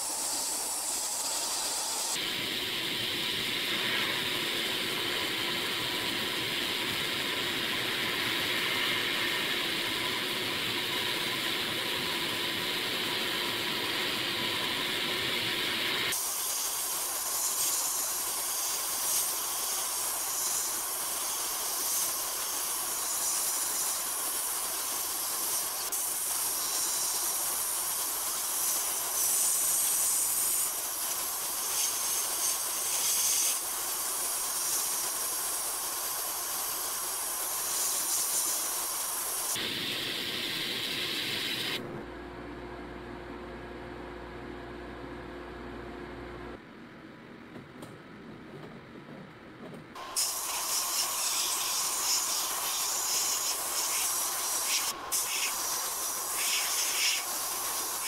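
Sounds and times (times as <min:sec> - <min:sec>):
sandblasting nozzle hissing: 0:00.0 - 0:41.8, 0:50.0 - 0:58.0.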